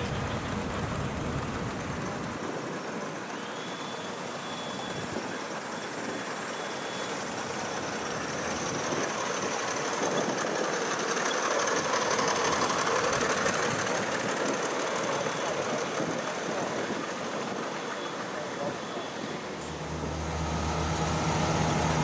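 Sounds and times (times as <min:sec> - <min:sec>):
model train wheels rattling on rails: 0:00.0 - 0:22.0.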